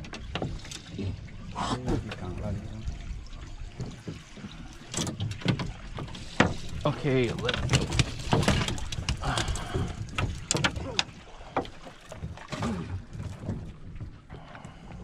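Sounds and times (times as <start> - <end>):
knocks and clatter on boat: 0.0 - 15.0
water: 0.0 - 15.0
wind: 0.0 - 15.0.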